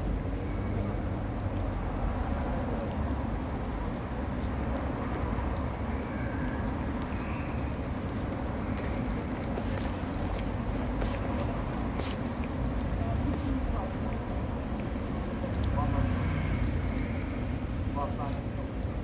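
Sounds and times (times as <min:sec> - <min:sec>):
cat eating wet food: 0:00.0 - 0:19.0
low rumble of traffic: 0:00.0 - 0:19.0.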